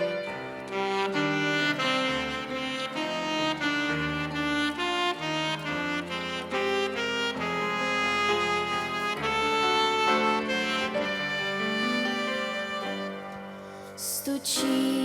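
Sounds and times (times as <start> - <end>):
slow instrumental hymn: 0.0 - 15.0.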